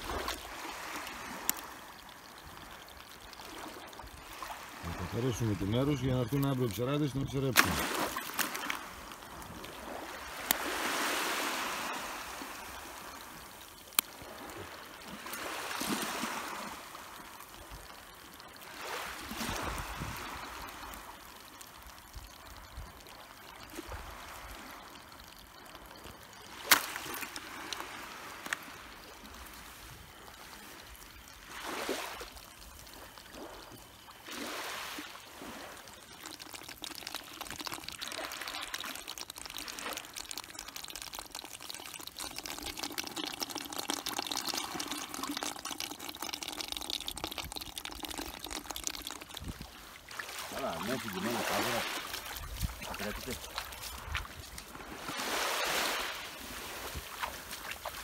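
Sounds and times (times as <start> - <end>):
shallow water washing at shore: 0.0 - 58.0.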